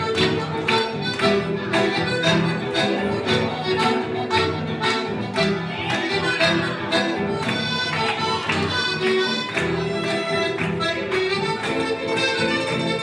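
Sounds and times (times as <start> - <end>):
accordion melody: 0.0 - 13.0
acoustic guitar strumming: 0.0 - 13.0.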